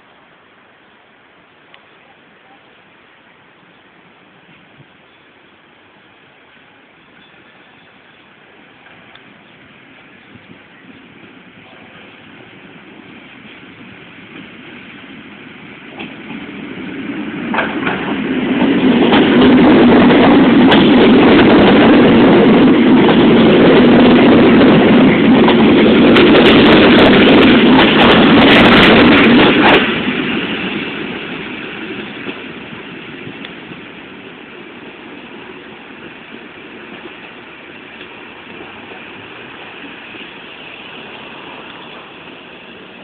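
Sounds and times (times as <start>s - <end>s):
train wheels rumbling on rails: 3.5s - 43.0s
sharp train clicks: 7.1s - 43.0s.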